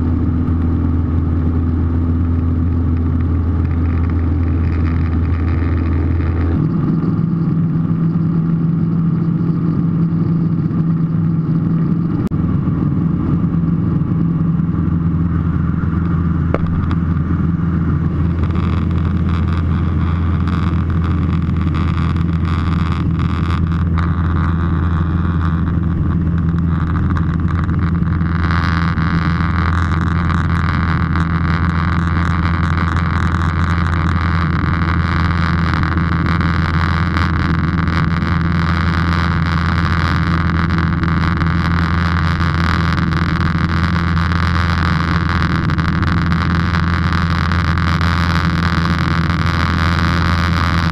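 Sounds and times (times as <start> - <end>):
propeller aircraft engine droning: 0.0 - 50.9.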